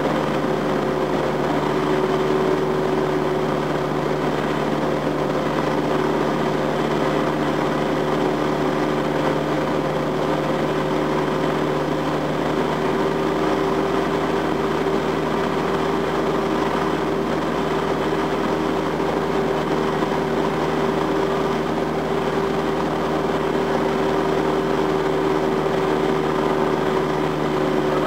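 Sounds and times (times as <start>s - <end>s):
light aircraft engine droning: 0.0s - 28.0s.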